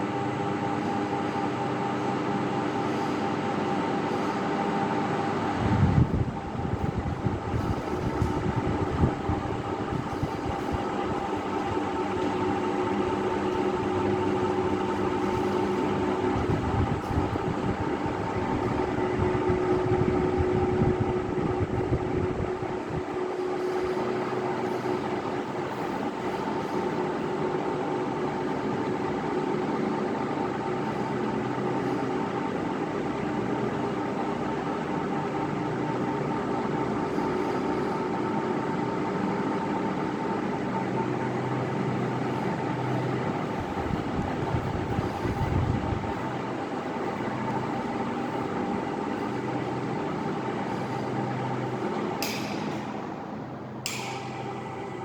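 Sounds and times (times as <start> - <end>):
ceiling fan motor hum: 0.0 - 55.0.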